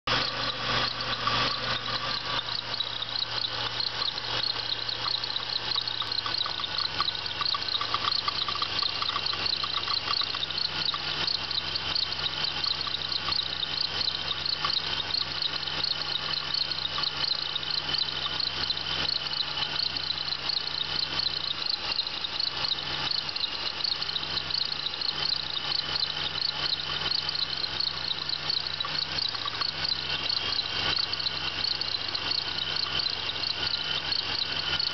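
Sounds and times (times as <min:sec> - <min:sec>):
car engine idling: 0:00.0 - 0:34.9
high chirping squeal from belt pulley: 0:00.1 - 0:34.9.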